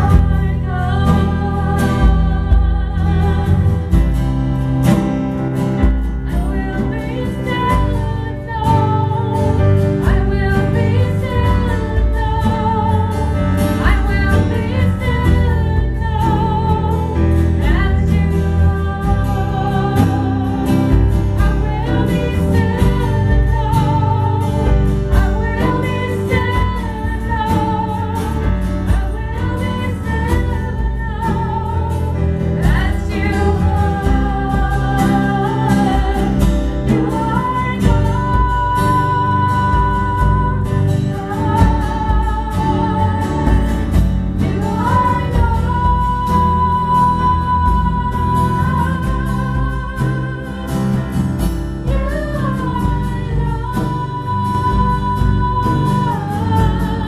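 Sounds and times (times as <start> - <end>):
live band playing: 0.0 - 57.0
woman singing lead: 0.0 - 57.0.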